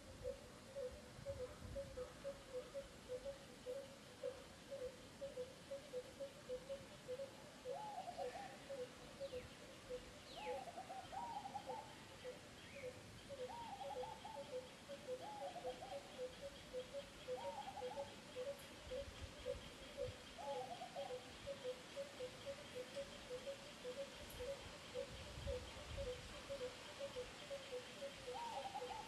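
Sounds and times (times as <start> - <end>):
birds calling low repeated notes: 0.0 - 29.0.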